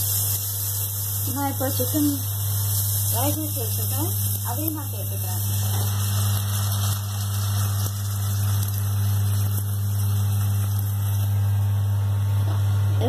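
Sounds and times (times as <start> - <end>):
constant hiss: 0.0 - 12.6
steady low hum: 0.0 - 13.0.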